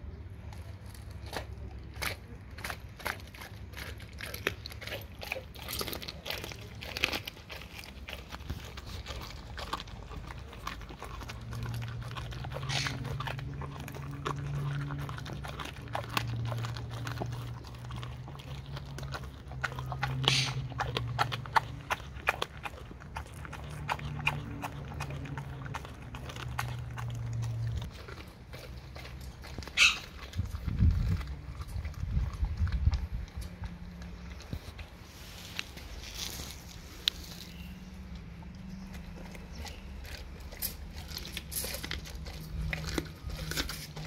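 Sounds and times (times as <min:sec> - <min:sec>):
dog chewing and crunching bones: 0:00.0 - 0:44.0.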